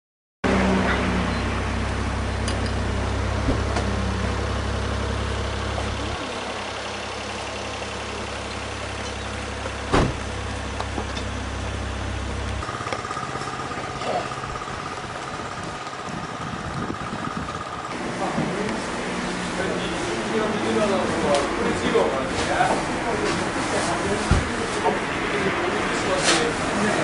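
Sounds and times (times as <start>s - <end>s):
engine idling: 0.5s - 27.0s.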